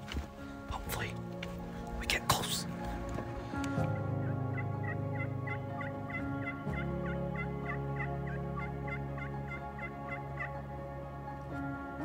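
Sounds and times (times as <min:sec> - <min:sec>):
soft held chords: 0:00.0 - 0:12.0.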